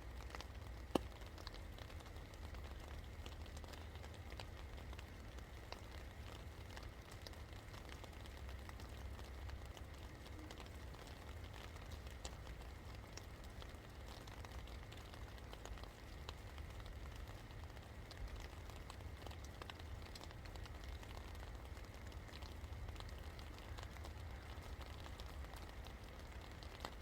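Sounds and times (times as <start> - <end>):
rain drops on hard surface: 0.0 - 27.0.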